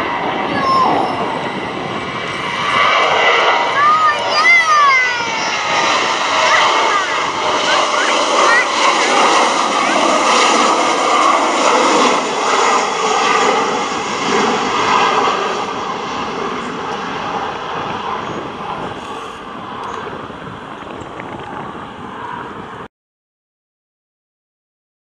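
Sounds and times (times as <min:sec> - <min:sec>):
jet engines at takeoff thrust: 0:00.0 - 0:22.9.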